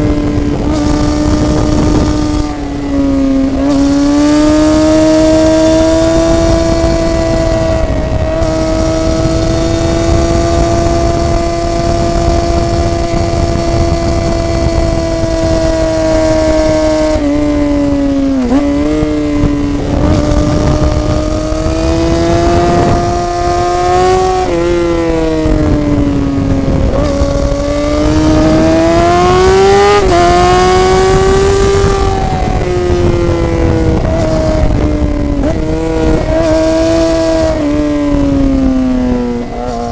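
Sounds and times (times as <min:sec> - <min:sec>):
low wind rumble: 0:00.0 - 0:39.9
motorcycle engine revving: 0:00.0 - 0:39.9.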